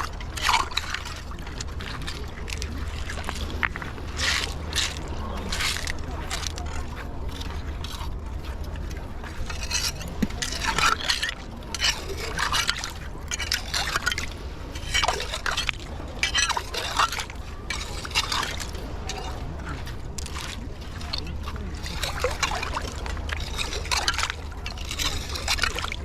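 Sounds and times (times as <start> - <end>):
raking mud scraping: 0.0 - 26.0
wet mud squelching and splashing: 0.0 - 26.0.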